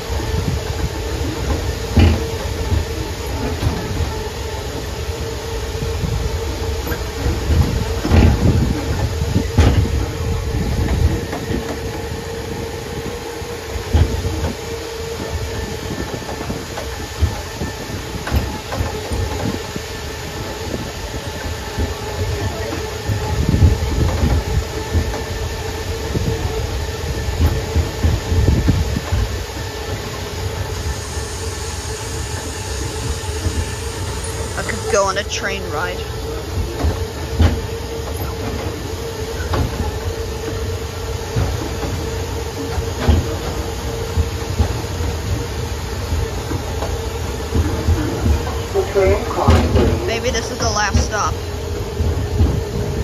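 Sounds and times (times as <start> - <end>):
tram motor hum: 0.0 - 53.0.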